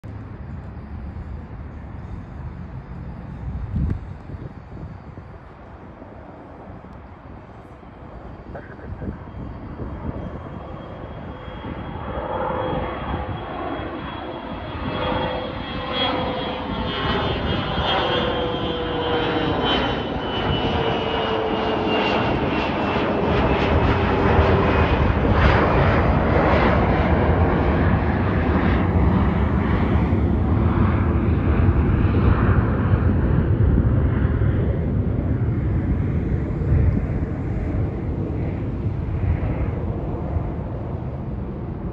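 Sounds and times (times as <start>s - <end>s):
deep jet rumble: 0.0s - 41.9s
jet engines whining overhead: 0.0s - 41.9s.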